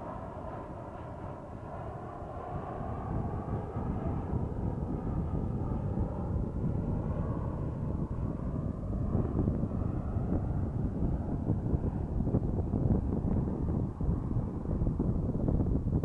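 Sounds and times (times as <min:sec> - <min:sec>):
jet engine rumble with whine: 0:00.0 - 0:16.0
wind buffeting microphone: 0:00.0 - 0:16.0.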